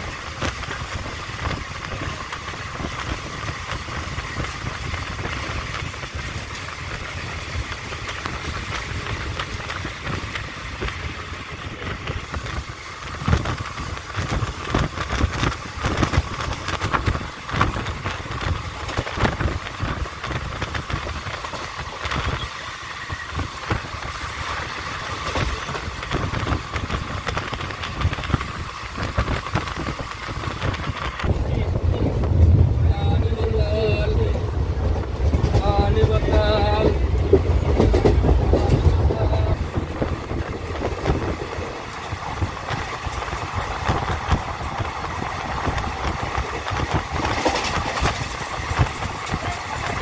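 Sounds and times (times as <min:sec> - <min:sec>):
train clacks and knocks: 0:00.0 - 0:50.0
train wheels rumbling on rails: 0:00.0 - 0:50.0.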